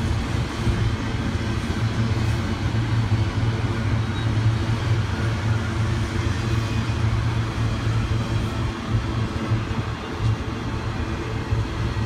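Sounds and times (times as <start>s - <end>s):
freight train rumbling on bridge: 0.0s - 12.0s.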